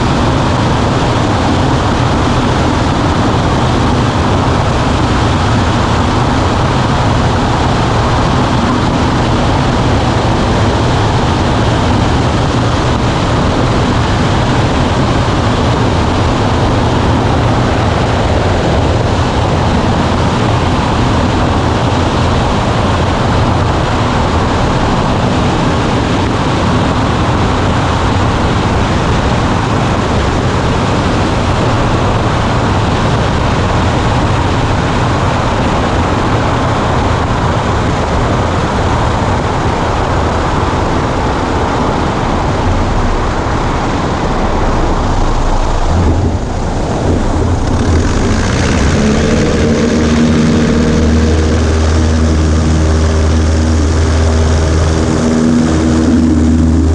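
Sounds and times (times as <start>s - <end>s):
rush of airflow: 0.0s - 56.9s
small plane engine and propeller: 0.0s - 56.9s.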